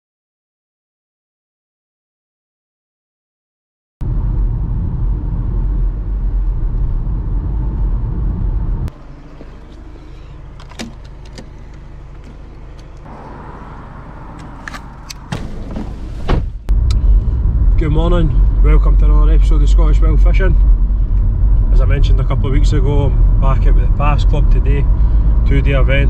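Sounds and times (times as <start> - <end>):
car engine rumbling: 4.0 - 26.0.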